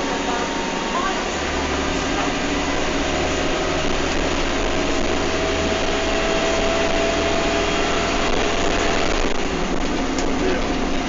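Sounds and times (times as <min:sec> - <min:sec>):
bus engine rumble inside: 0:00.0 - 0:11.0.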